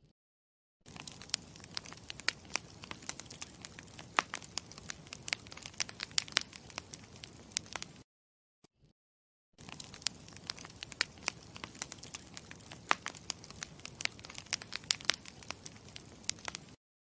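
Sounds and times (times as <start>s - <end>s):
campfire crackling: 0.9s - 8.0s, 9.6s - 16.8s.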